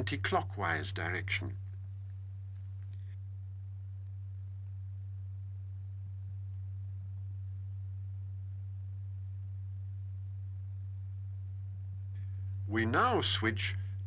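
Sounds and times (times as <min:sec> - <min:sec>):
steady low pure tone: 0:00.0 - 0:14.0.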